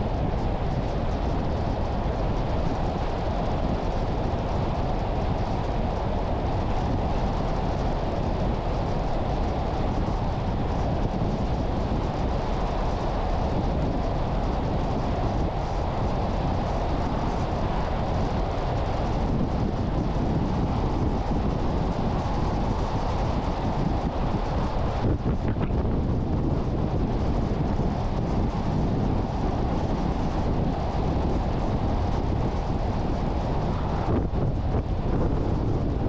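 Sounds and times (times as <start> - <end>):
car tyre and wind road noise: 0.0 - 36.0.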